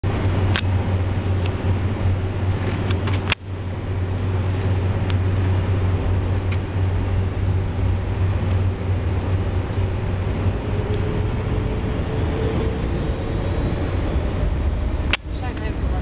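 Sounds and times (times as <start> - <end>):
airplane engines rumbling: 0.0 - 16.0.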